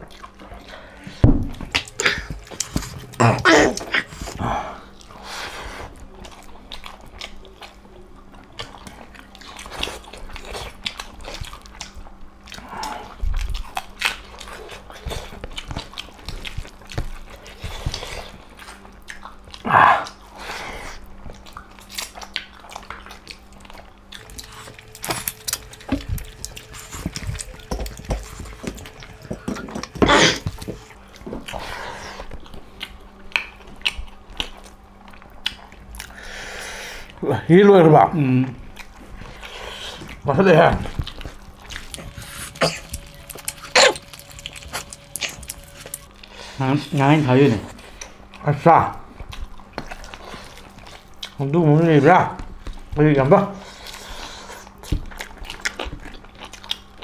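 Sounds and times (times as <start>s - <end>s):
people chewing food: 0.0s - 57.0s.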